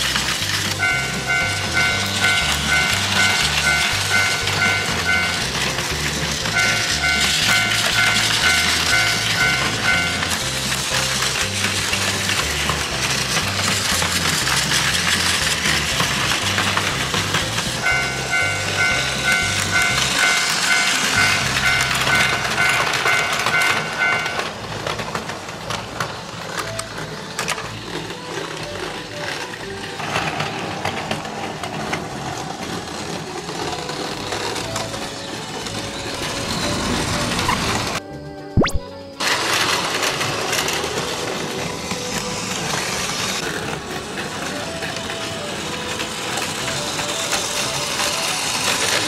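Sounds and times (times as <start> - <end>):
toy trains rattling on plastic track: 0.0 - 38.0, 39.1 - 49.0.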